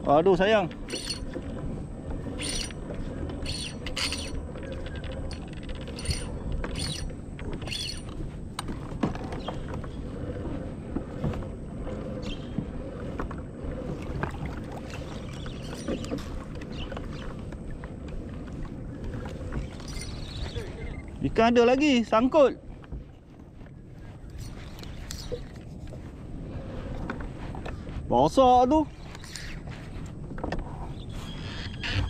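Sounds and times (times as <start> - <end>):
water and wind noise: 0.0 - 32.0.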